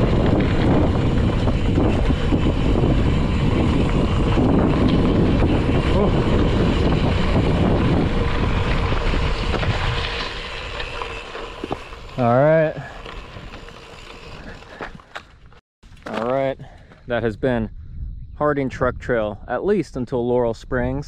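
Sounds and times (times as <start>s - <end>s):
wind buffeting microphone: 0.0s - 15.1s, 16.5s - 21.0s.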